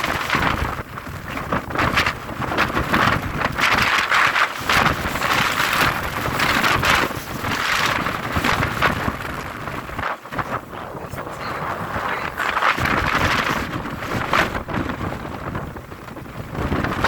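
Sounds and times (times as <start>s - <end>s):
strong wind gusting on microphone: 0.0s - 17.0s.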